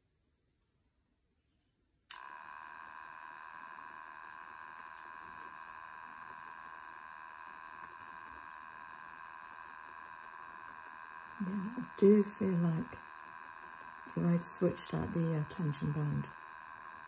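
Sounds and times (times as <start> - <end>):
spinning wheel motor whine: 2.1 - 17.0.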